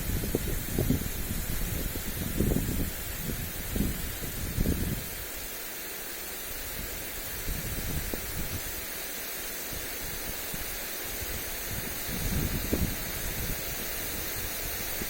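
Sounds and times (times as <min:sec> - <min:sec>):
wind rumbling on microphone: 0:00.0 - 0:05.3, 0:06.6 - 0:08.7, 0:09.7 - 0:15.0
sprinkler spraying water: 0:00.0 - 0:15.0.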